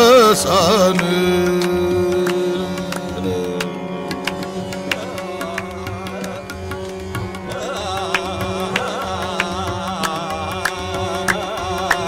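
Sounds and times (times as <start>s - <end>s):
harmonium holding notes: 0.0s - 12.0s
tabla strokes: 0.0s - 12.0s.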